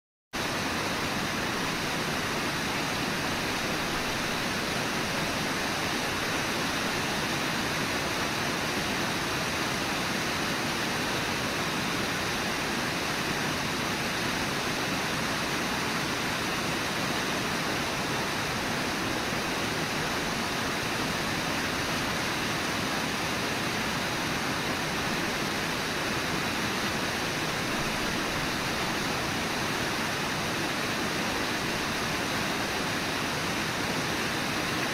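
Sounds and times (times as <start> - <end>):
fast river water roaring: 0.4 - 34.9.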